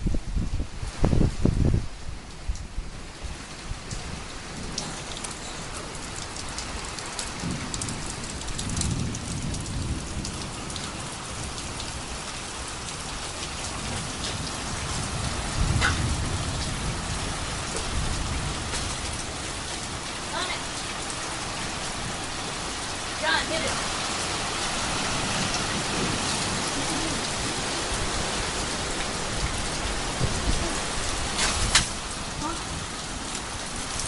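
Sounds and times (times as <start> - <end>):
heavy rain falling: 0.0 - 34.0
thunder rumbling: 4.0 - 34.0.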